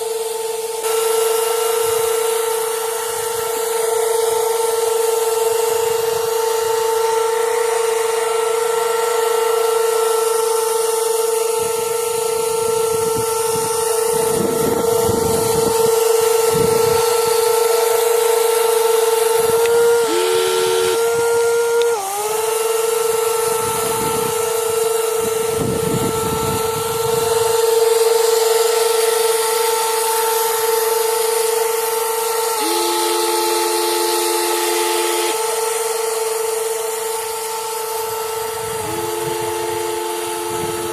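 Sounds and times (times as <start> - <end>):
electric motors whining: 0.0 - 40.9
machine grinding: 0.0 - 40.9.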